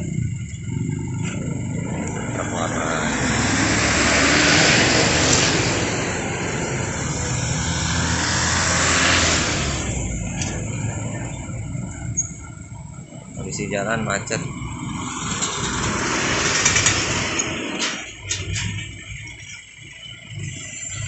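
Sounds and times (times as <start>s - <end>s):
steady engine rumble: 0.0s - 21.0s
vehicles passing close by: 0.0s - 21.0s.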